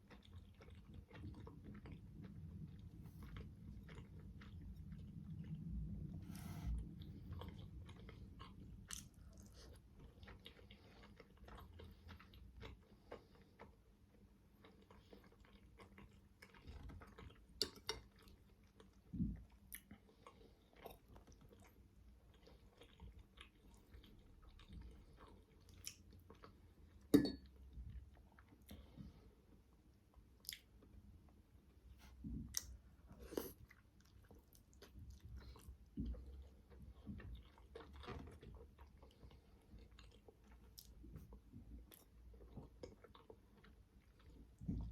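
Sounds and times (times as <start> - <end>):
chewing and mouth sounds: 0.0 - 44.9.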